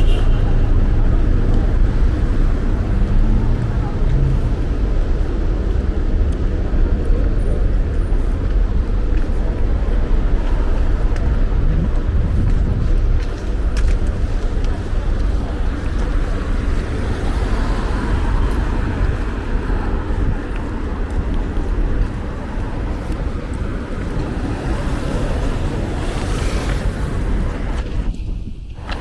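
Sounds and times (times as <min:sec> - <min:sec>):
road traffic passing: 0:00.0 - 0:29.0
steady low rumble: 0:00.0 - 0:29.0.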